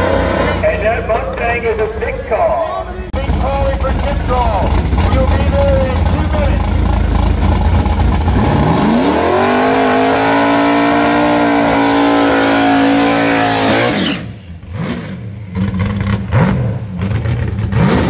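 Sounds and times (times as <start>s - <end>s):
drag car engine revving: 0.0s - 2.3s, 3.1s - 18.0s.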